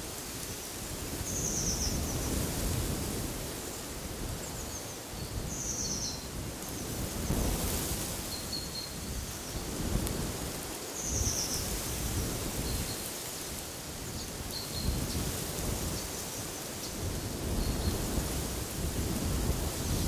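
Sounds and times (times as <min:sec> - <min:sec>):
wind gusting in trees: 0:00.0 - 0:20.0
wind buffeting microphone: 0:00.8 - 0:20.0.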